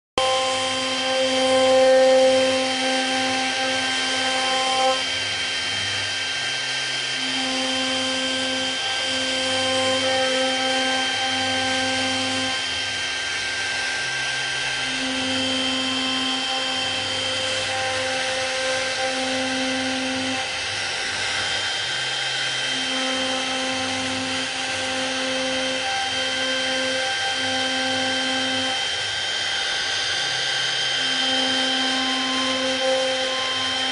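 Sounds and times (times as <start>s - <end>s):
high spindle whine: 0.2s - 33.9s
motor tones changing pitch: 0.2s - 33.9s.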